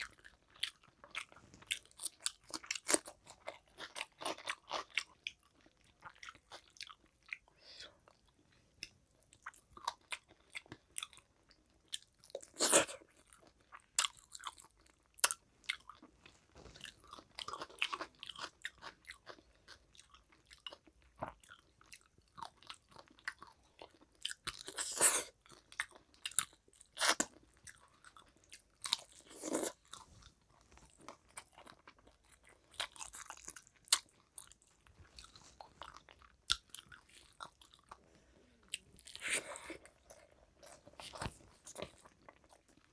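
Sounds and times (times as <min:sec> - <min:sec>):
person chewing with crunches: 0:00.0 - 0:42.9.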